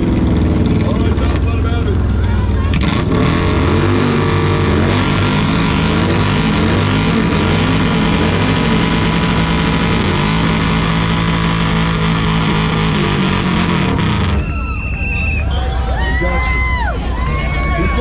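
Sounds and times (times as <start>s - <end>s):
motorcycle engine revving hard: 0.0s - 14.6s.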